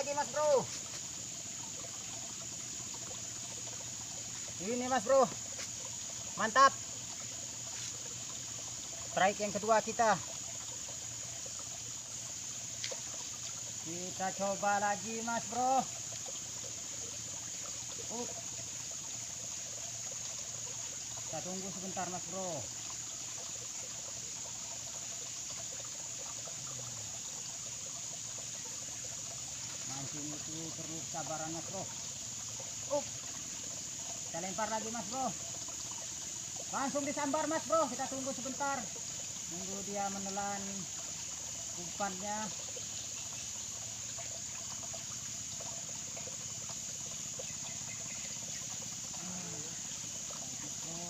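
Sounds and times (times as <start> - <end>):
high-pitched insect drone: 0.0 - 51.0
small splashes: 0.0 - 51.0
trickle of running water: 0.0 - 51.0.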